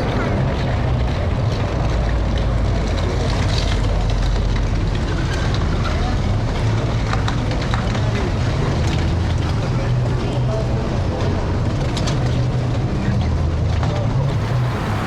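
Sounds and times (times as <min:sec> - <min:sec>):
faint voices: 0:00.0 - 0:15.0
vehicle engines rumbling: 0:00.0 - 0:15.0.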